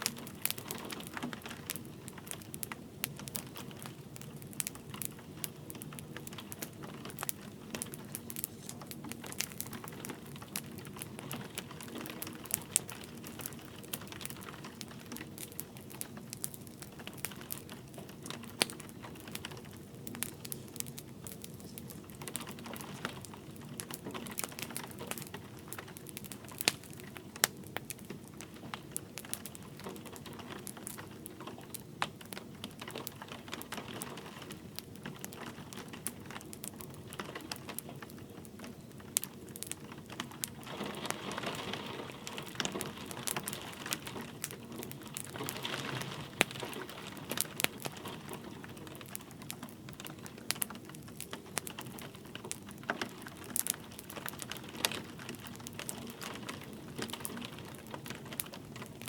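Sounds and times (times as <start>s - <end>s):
light rain: 0.0s - 59.0s
wood fire crackling in fireplace: 0.0s - 59.0s.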